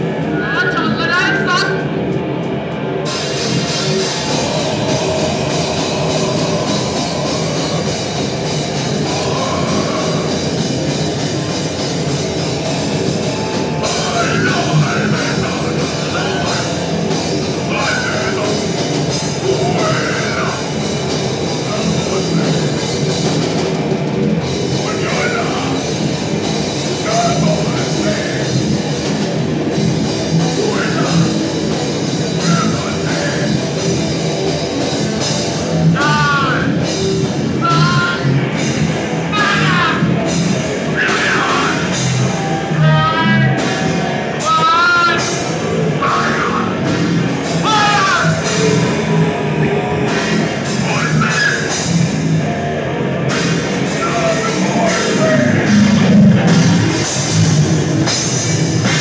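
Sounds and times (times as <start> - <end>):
heavy metal band playing: 0.0 - 59.0
harsh shouted vocals: 3.1 - 23.7, 24.6 - 59.0.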